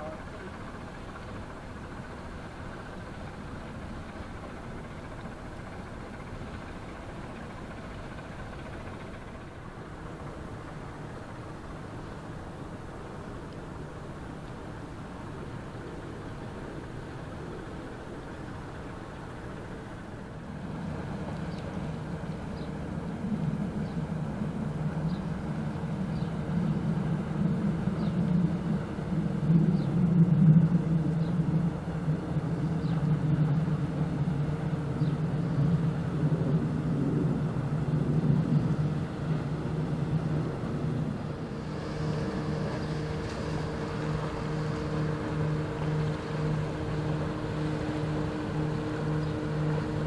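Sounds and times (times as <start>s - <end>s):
motorboat engine pulsing hum: 0.0s - 50.0s
ship diesel engines humming: 0.0s - 50.0s.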